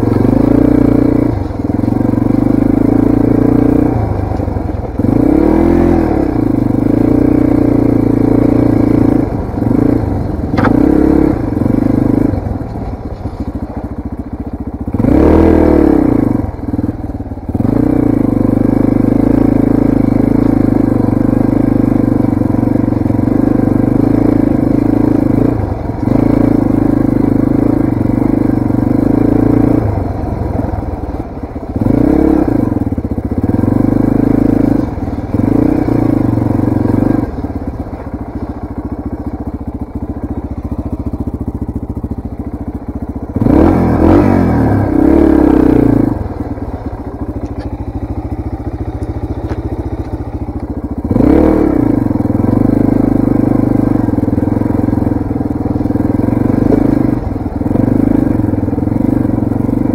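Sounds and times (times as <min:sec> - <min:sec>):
dirt bike engine revving: 0:00.0 - 0:14.0, 0:14.8 - 0:59.9.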